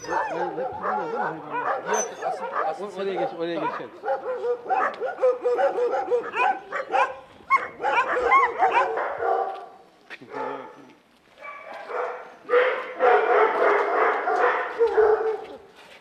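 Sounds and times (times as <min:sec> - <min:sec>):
dogs barking and yipping: 0:00.0 - 0:10.7, 0:11.4 - 0:15.8.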